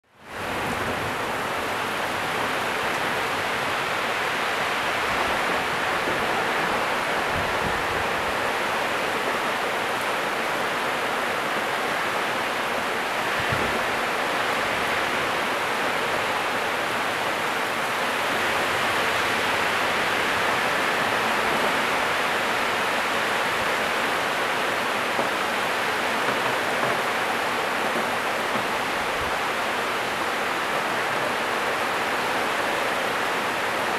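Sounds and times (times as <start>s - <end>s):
heavy rain downpour: 0.0s - 33.9s.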